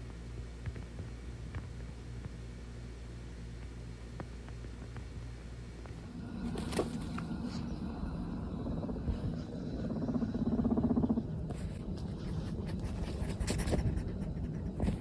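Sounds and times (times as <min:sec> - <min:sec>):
guinea pig purring: 0:00.0 - 0:15.0.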